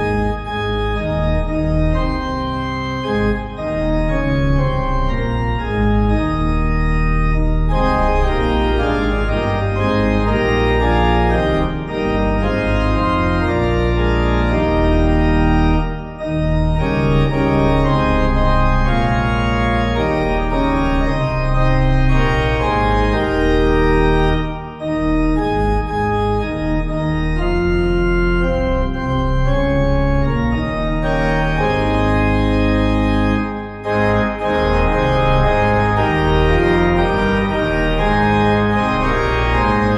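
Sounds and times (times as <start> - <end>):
organ music: 0.0 - 39.9.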